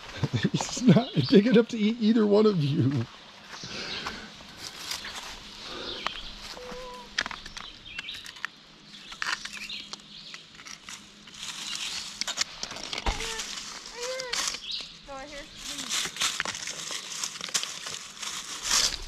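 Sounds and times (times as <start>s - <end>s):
rustling in brush and rocks: 3.1s - 19.0s.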